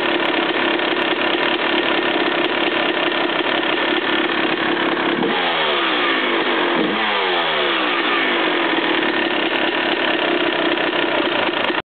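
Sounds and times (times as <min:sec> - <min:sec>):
motocross engine blipping and idling: 0:00.0 - 0:11.8.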